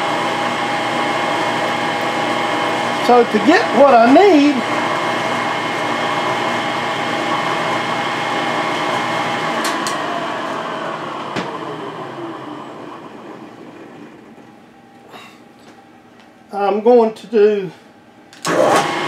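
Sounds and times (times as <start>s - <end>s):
milling machine running: 0.0s - 14.8s, 18.4s - 19.0s.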